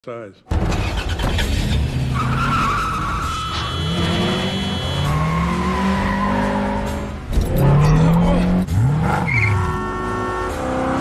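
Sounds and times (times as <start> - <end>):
tires squealing: 0.7 - 11.0.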